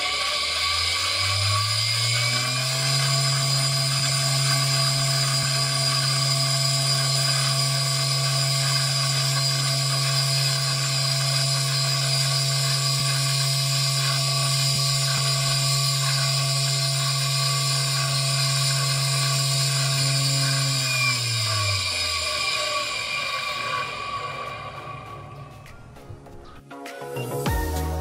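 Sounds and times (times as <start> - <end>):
disperser motor speeding up: 0.0 - 26.0.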